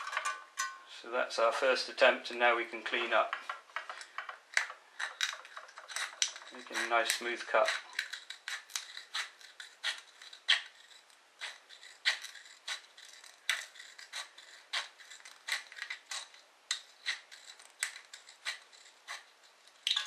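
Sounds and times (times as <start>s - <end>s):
scissors snipping through can: 3.8s - 20.0s.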